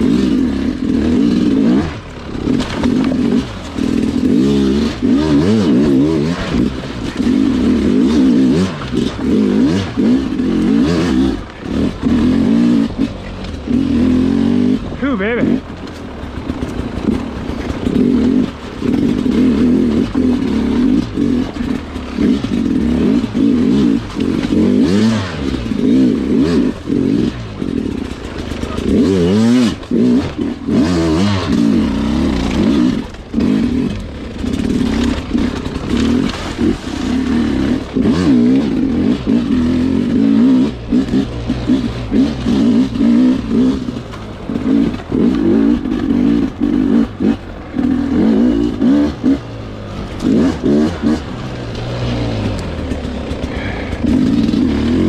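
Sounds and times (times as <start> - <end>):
clatter: 0.0 - 55.0
dirt bike engine revving: 0.0 - 55.0.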